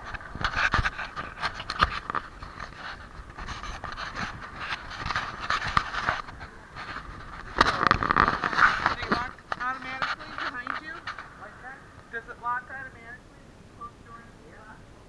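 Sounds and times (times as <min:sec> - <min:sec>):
wind buffeting microphone: 0:00.0 - 0:12.6
crackles and knocks: 0:00.0 - 0:13.0.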